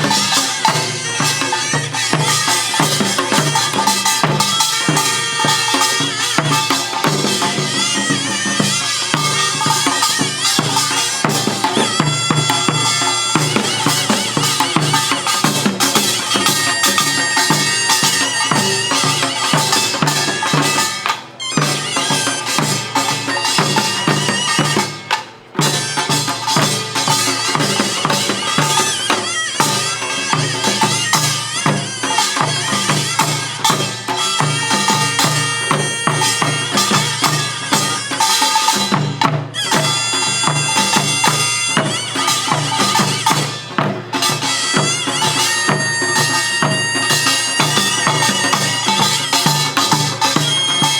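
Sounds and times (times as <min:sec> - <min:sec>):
drum and gong rhythms: 0:00.0 - 0:50.9
shawm melody: 0:00.0 - 0:50.9.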